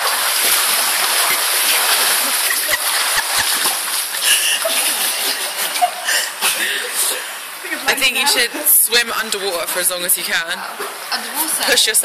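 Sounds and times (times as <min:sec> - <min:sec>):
swimmers splashing water: 0:00.0 - 0:12.0.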